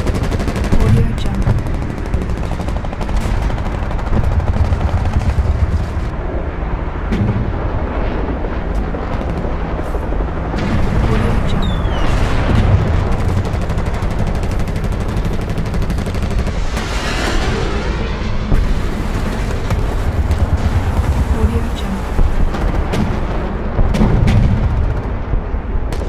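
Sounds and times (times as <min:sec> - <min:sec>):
dense gunfire: 0:00.0 - 0:06.1, 0:08.9 - 0:26.0
artillery rumble and distant explosions: 0:00.0 - 0:26.0.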